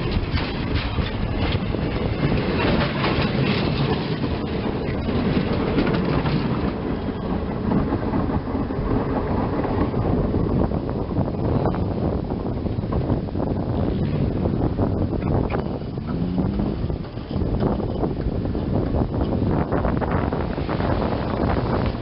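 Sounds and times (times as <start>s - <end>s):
passenger train rumbling: 0.0s - 22.0s
wheels clicking over rail joints: 0.0s - 22.0s.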